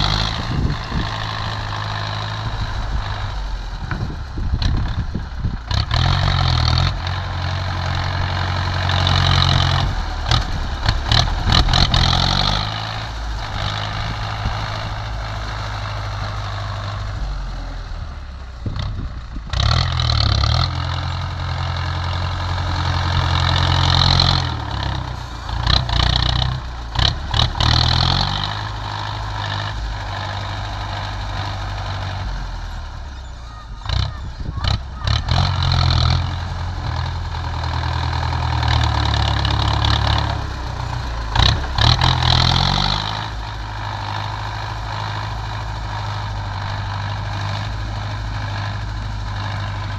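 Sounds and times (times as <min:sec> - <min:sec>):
heavy diesel engine revving: 0:00.0 - 0:49.9.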